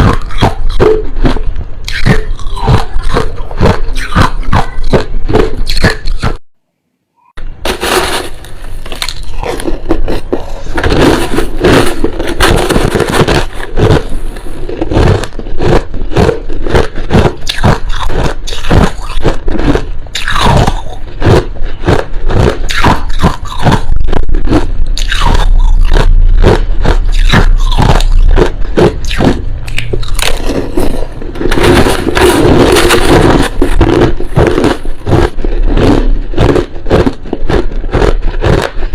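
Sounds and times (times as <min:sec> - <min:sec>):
crushed ice being chewed: 0:00.0 - 0:06.4, 0:07.8 - 0:38.9.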